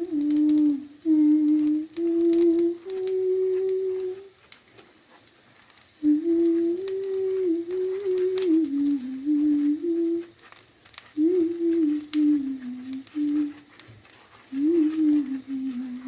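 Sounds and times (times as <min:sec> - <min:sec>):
faint light clicks: 0:00.0 - 0:05.0, 0:05.6 - 0:16.0.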